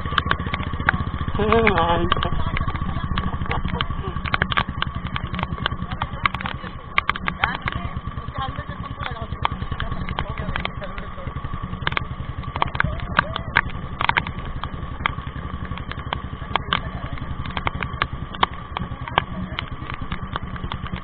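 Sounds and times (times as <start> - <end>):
motorcycle engines running: 0.0 - 21.0
sharp taps: 0.0 - 21.0.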